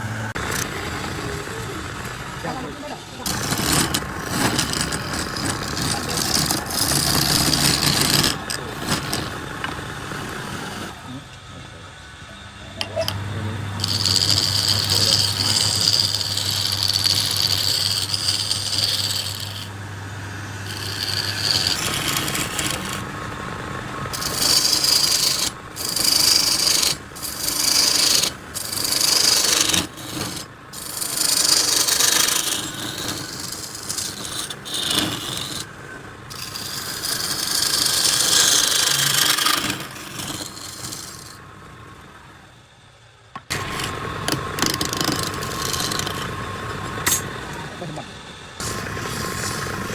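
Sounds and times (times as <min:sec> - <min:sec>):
lathe tool scraping wood: 0:00.0 - 0:42.5, 0:43.4 - 0:49.9.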